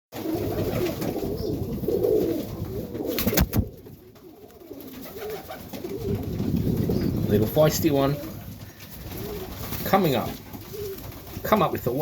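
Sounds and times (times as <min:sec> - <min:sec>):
pigeons cooing: 0:00.2 - 0:12.0.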